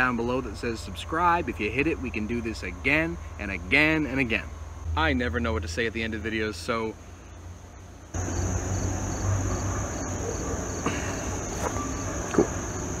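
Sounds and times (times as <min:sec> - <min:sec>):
high-pitched insect chorus: 0:00.2 - 0:13.0.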